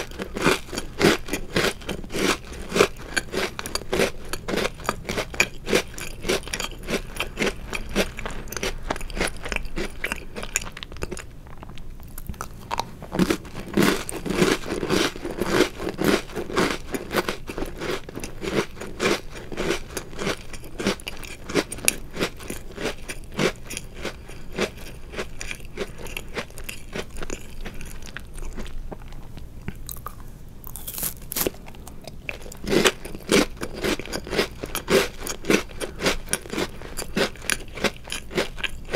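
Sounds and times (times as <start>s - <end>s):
crunching cookie bites: 0.0s - 38.9s.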